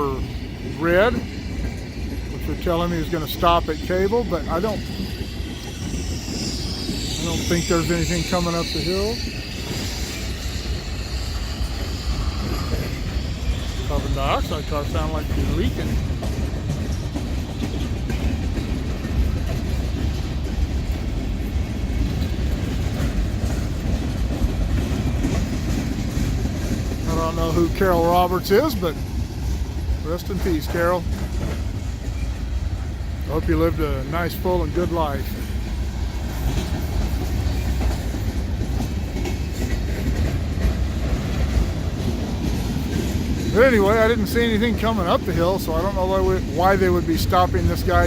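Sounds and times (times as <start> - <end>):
freight train wheels rumbling on rails: 0.0 - 48.0.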